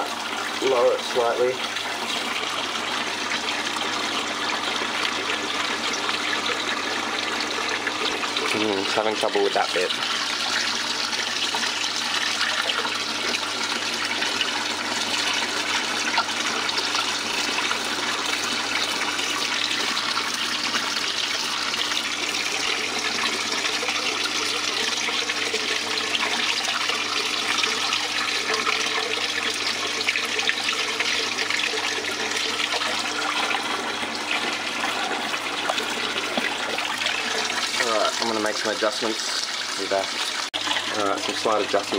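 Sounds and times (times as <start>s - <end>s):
water running and splashing: 0.0s - 41.9s.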